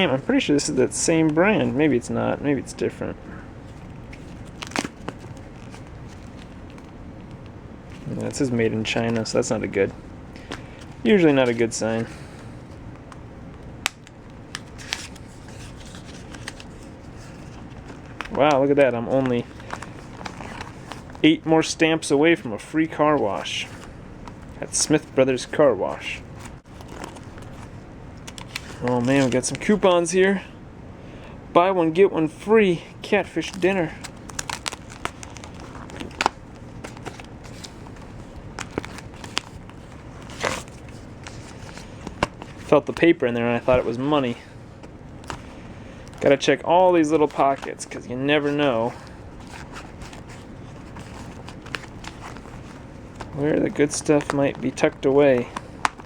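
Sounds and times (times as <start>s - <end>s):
cards and papers rustling: 0.0s - 30.0s, 33.1s - 56.0s.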